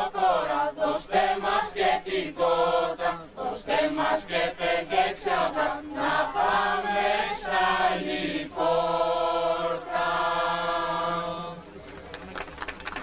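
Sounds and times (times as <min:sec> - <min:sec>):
mixed choir singing a carol: 0:00.0 - 0:11.9.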